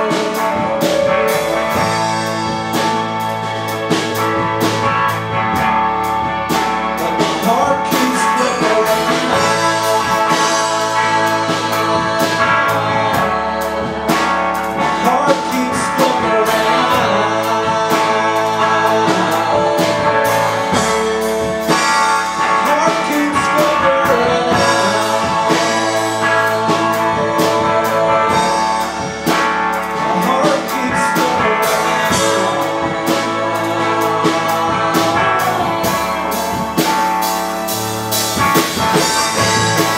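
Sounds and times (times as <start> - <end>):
drum kit steady beat: 0.0 - 39.9
electric guitar strumming: 0.0 - 39.9.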